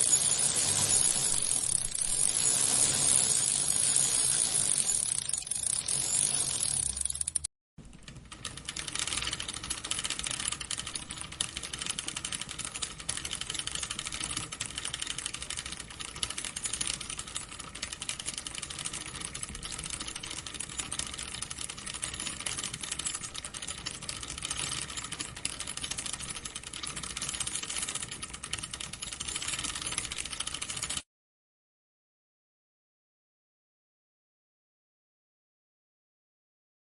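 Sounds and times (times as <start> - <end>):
bicycle chain clicking: 0.0 - 7.5, 8.1 - 31.0.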